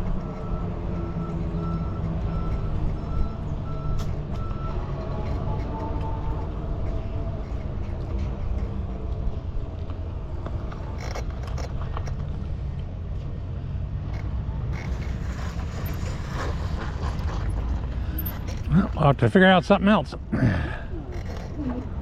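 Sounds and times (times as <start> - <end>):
bicycle rolling noise: 0.0 - 19.3.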